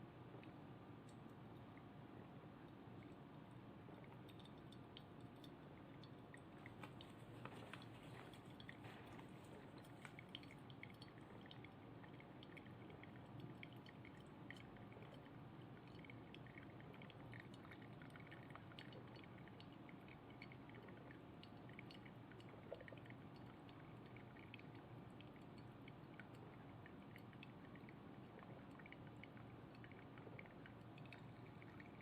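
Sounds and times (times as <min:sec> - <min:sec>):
coffee dripping into glass: 0:02.7 - 0:32.0
small irregular ticks: 0:03.0 - 0:32.0.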